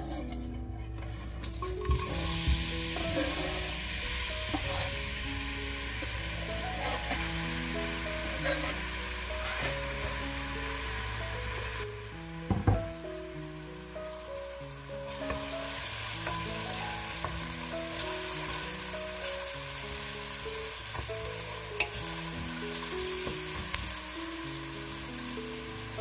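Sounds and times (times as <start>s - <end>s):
background music with sustained notes: 0.0s - 26.0s
onion sizzling in oil: 1.0s - 26.0s.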